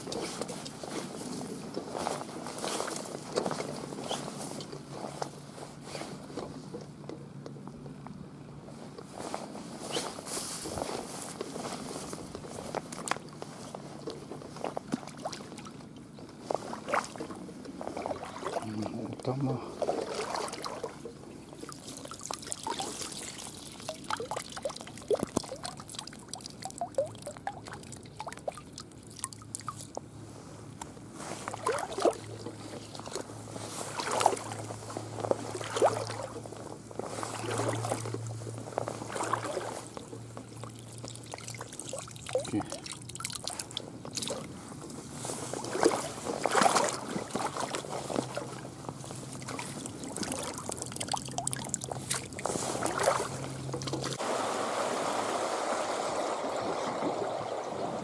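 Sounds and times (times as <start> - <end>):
shallow water sloshing and splashing: 0.0 - 6.8, 8.9 - 58.0
low steady hum: 0.0 - 58.0.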